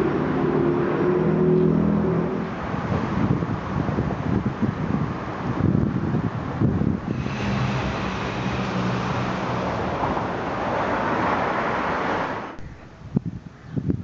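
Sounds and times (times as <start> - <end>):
vehicle engine hum: 0.0 - 12.8
rushing road noise: 0.0 - 13.4.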